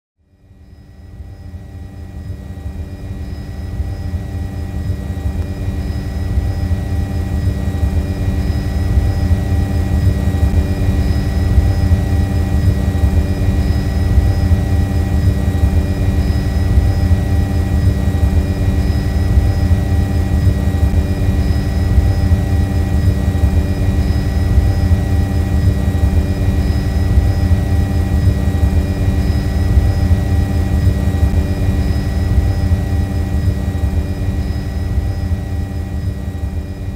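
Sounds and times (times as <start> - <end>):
drone propellers buzzing: 1.4 - 36.9.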